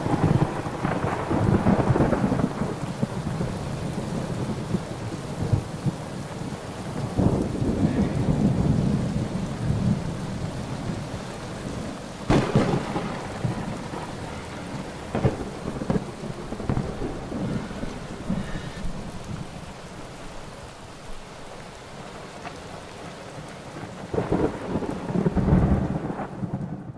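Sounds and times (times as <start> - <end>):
thunder rumbling and cracking: 0.0 - 20.2, 23.4 - 26.9
rain hissing: 0.0 - 26.9.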